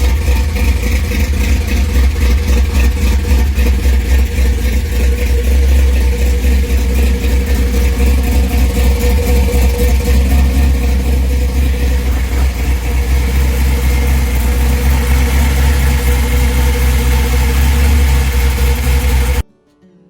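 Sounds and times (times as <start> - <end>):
car engine idling: 0.0 - 19.4.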